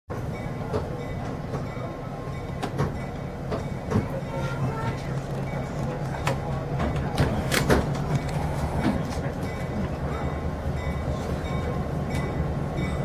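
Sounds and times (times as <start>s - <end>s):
diesel locomotive engine rumble: 0.1s - 13.0s.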